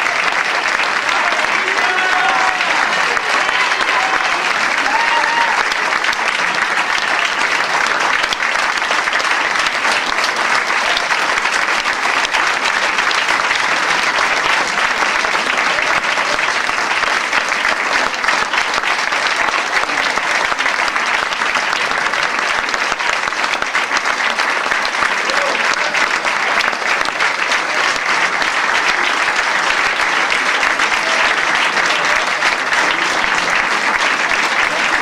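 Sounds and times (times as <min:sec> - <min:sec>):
audience applauding: 0:00.0 - 0:35.0.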